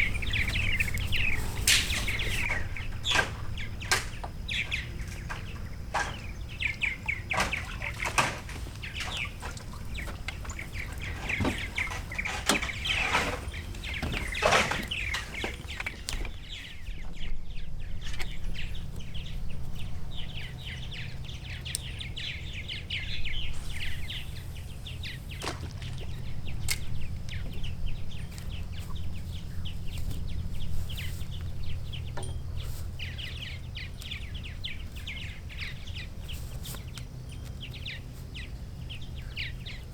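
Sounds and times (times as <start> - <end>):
steady low rumble: 0.0 - 8.0, 15.0 - 39.9
birds chirping: 0.0 - 39.9.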